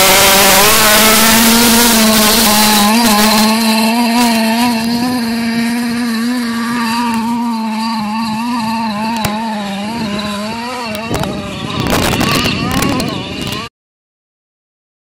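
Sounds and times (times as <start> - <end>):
small engine revving: 0.0 - 13.7.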